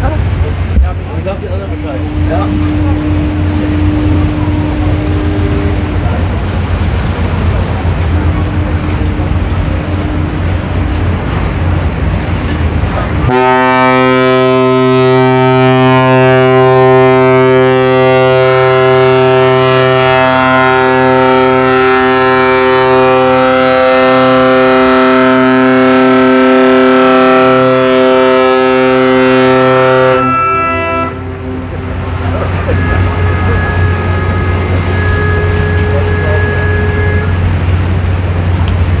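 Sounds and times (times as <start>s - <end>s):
ship's horn blast: 0.0s - 39.0s.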